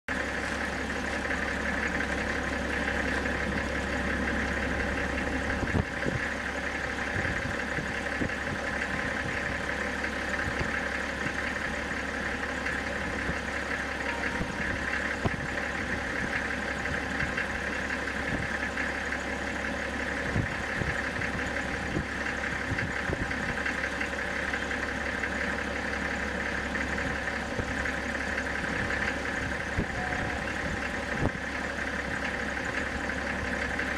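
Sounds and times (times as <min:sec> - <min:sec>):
steady mechanical hum: 0:00.1 - 0:33.9.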